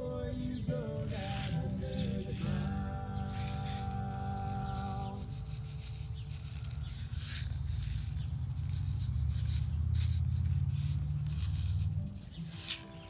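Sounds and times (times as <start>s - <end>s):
seeds rattling in paper packet: 0.0s - 13.0s.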